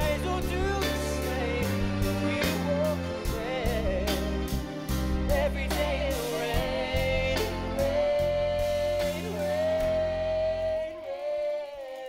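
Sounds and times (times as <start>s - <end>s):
steady drum beat: 0.0s - 11.0s
band playing: 0.0s - 12.0s
lead singer singing: 0.0s - 12.0s.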